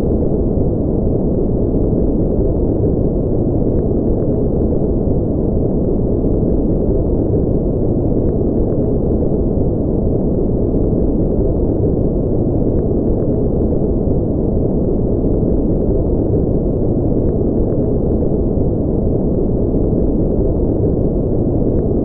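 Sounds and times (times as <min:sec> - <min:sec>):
deep brown noise rush: 0:00.0 - 0:22.0.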